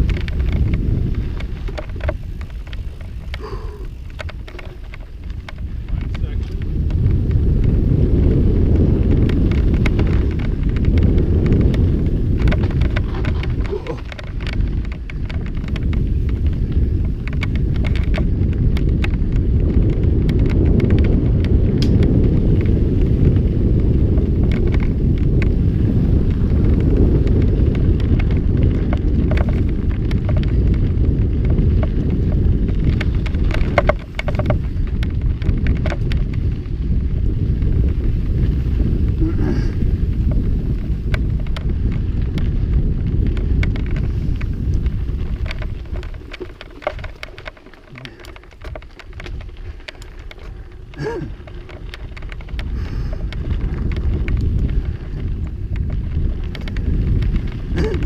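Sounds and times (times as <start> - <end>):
bike clicking and rattling: 0.0 - 58.0
wind rumbling on microphone: 0.0 - 58.0.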